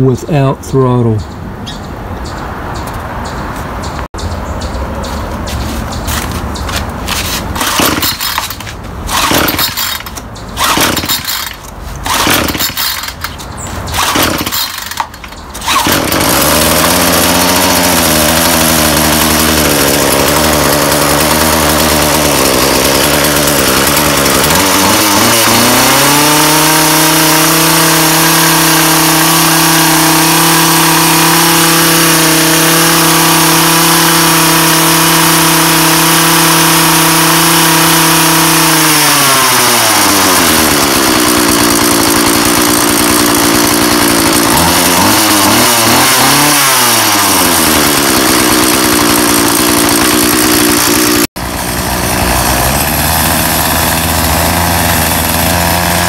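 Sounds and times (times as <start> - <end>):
string trimmer engine revving: 6.1 - 56.0.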